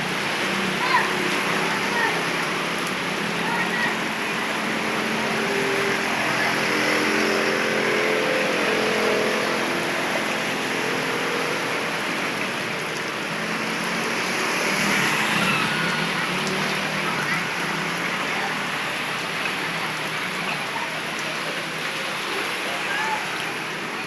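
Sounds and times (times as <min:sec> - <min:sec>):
heavy rain pouring: 0:00.0 - 0:24.0
motorbike engines through water: 0:00.0 - 0:24.0.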